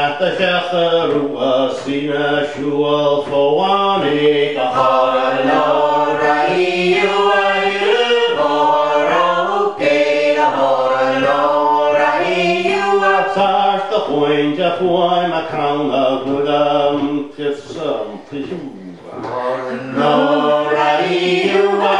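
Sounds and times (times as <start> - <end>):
group singing unaccompanied: 0.0 - 18.2, 19.1 - 21.9.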